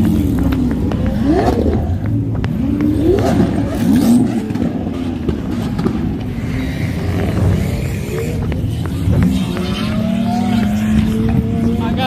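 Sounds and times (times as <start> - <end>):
car engine revving: 0.0 - 12.0
idling engines rumble: 0.0 - 12.0.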